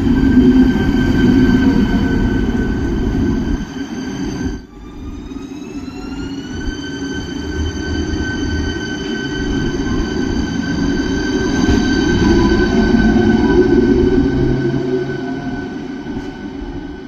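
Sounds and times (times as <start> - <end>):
train drive whine: 0.0 - 17.0
train low rumble: 0.0 - 17.0.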